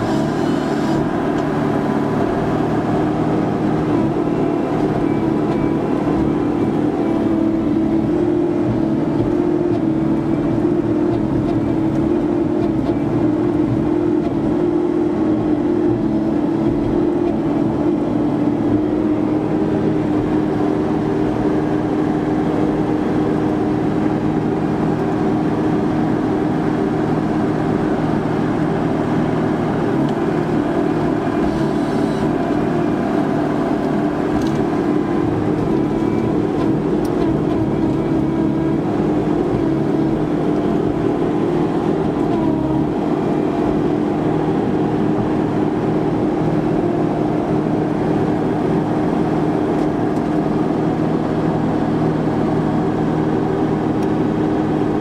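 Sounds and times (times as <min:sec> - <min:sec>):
harvester engine and hydraulics droning: 0:00.0 - 0:55.0.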